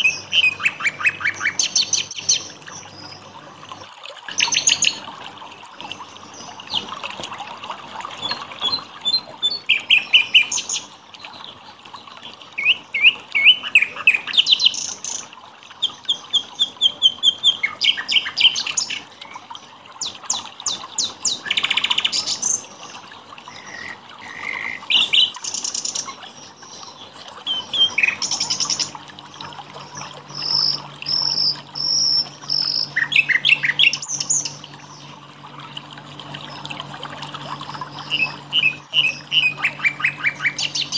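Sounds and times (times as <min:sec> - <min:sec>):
songbirds singing and chirping: 0:00.0 - 0:03.6, 0:04.3 - 0:05.2, 0:05.8 - 0:07.4, 0:08.0 - 0:40.9.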